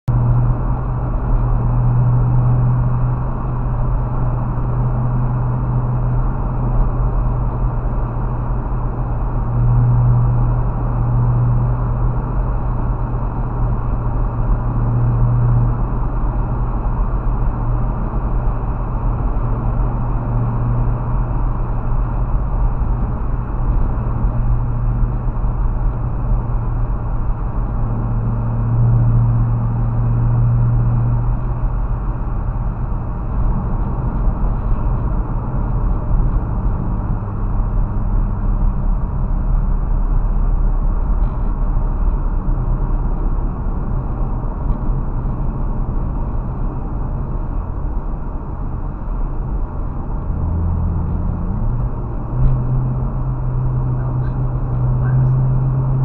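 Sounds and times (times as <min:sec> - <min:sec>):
car road noise at highway speed: 0:00.0 - 0:56.0
low drone: 0:00.0 - 0:56.0.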